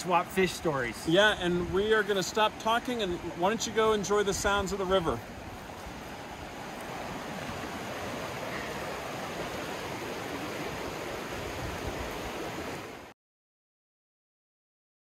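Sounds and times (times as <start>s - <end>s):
fast river rushing: 0.0s - 13.1s.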